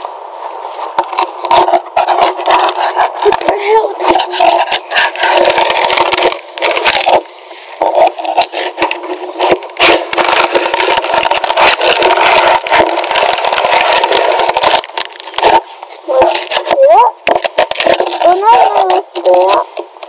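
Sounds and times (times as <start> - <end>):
fiberglass mat cracking and tearing: 1.0 - 20.0.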